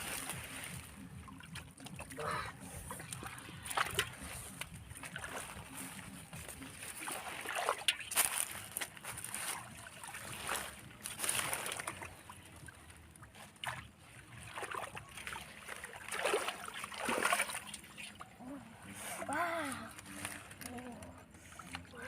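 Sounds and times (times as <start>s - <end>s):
river water splashing: 0.0s - 22.0s.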